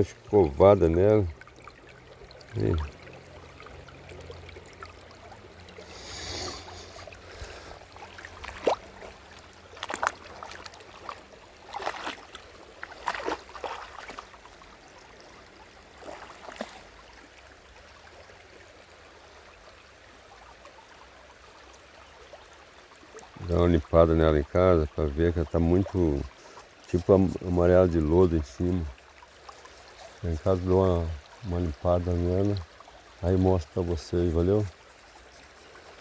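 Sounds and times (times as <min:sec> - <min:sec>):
stream water running: 0:00.0 - 0:36.0.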